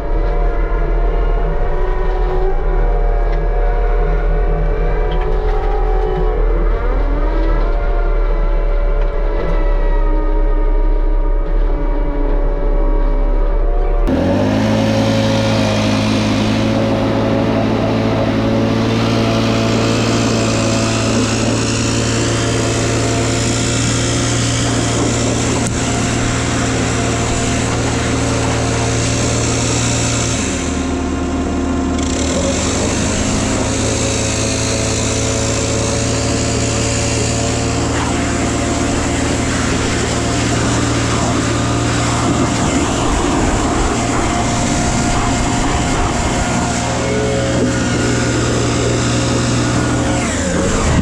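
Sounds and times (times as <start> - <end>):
skid steer engine running: 0.0 - 51.0
mulching head rushing noise: 9.0 - 51.0.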